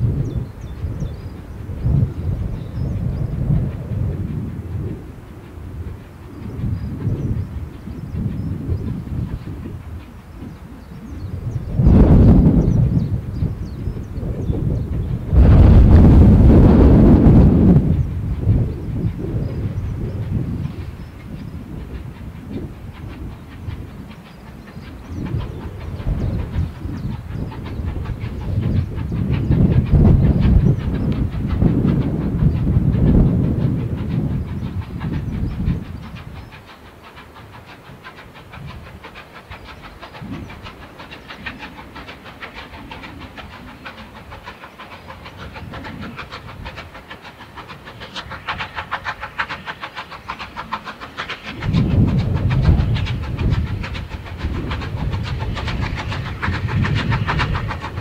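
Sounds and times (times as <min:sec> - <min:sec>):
steam locomotive exhaust rumble: 0:00.0 - 0:58.0.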